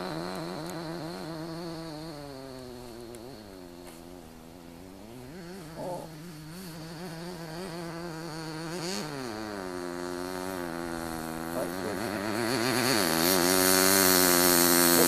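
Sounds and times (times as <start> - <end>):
model car engine revving: 0.0 - 15.0.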